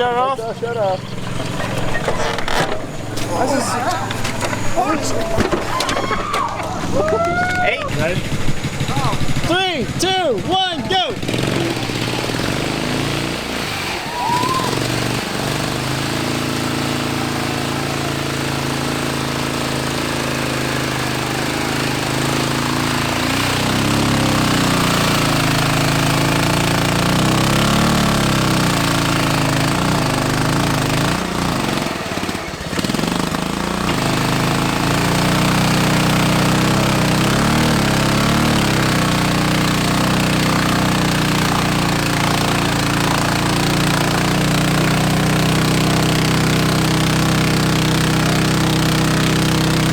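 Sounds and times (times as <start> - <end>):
small engine running hard and rattling: 0.0 - 49.9.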